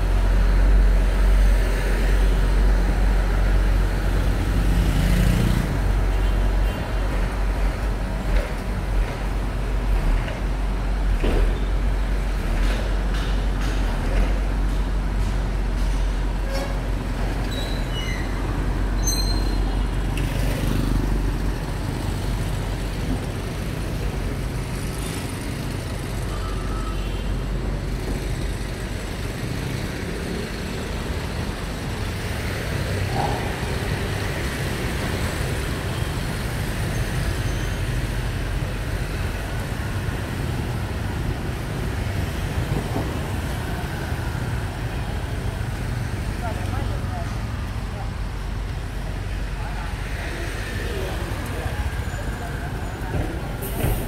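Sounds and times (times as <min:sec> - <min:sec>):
cars and trucks passing: 0:00.0 - 0:54.0.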